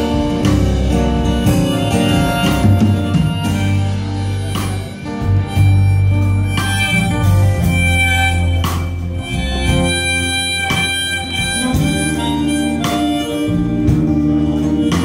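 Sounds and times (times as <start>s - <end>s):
acoustic guitar: 0.0s - 15.0s
drums: 0.0s - 15.0s
harmonica playing held notes: 0.0s - 15.0s.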